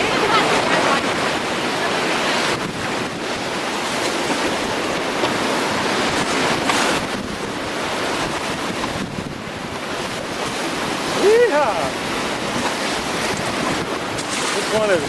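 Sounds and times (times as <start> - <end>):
rapids rushing and splashing: 0.0 - 15.0
wind buffeting microphone: 0.0 - 15.0.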